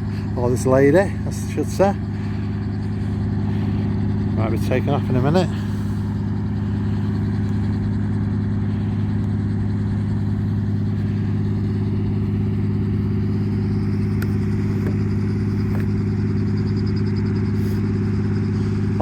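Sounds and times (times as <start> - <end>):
light aircraft engine idling: 0.0 - 19.0.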